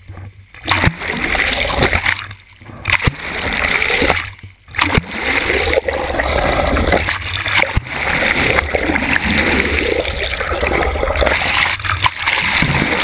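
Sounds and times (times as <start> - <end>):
water rushing and gurgling: 0.0 - 13.0.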